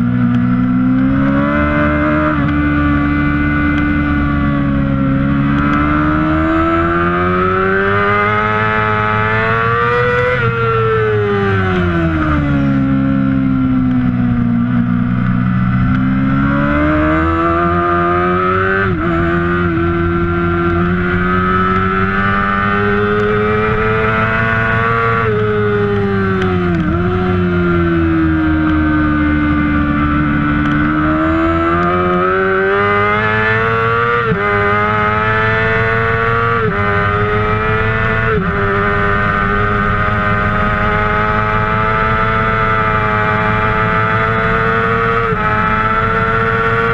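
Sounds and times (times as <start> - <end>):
racing motorcycle engine: 0.0 - 46.9.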